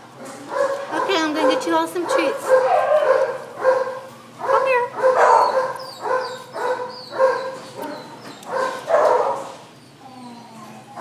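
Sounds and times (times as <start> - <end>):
small dogs barking: 0.4 - 9.8.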